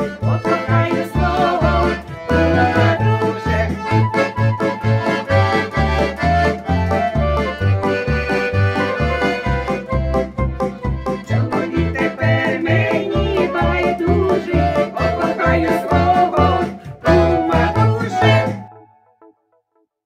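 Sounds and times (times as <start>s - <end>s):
accordion playing folk tune: 0.0s - 19.0s.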